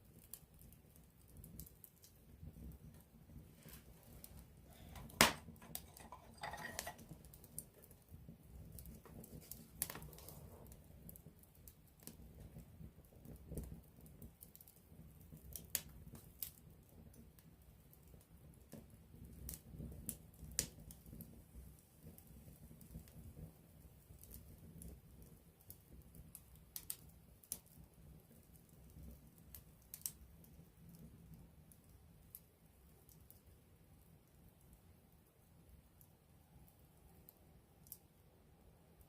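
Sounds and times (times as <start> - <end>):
campfire crackling and popping: 0.0 - 38.2
low noise of flames: 0.0 - 39.0.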